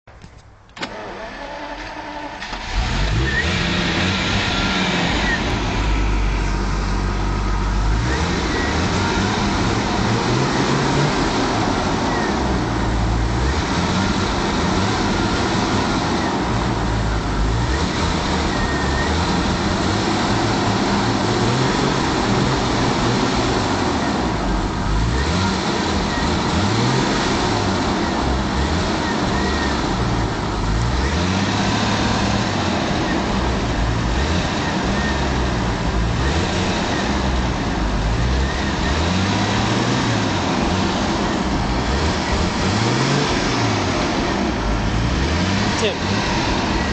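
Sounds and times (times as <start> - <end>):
car engine revving: 0.8 - 46.9.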